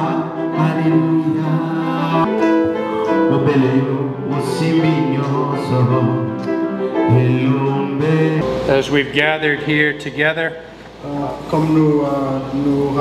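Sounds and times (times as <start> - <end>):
song with singing over instruments: 0.0 - 13.0.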